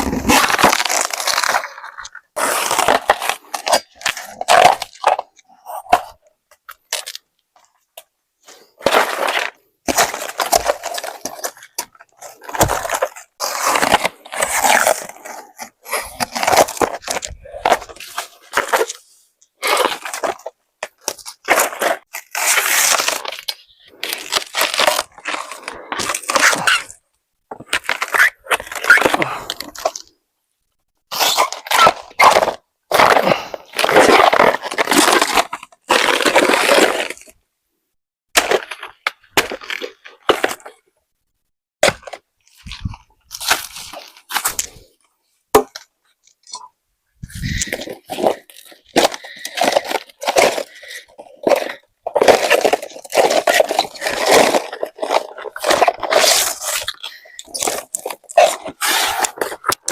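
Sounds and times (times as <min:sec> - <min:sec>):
crunching and cracking: 0:00.0 - 0:30.1, 0:31.1 - 0:37.4, 0:38.4 - 0:40.8, 0:41.8 - 0:59.9.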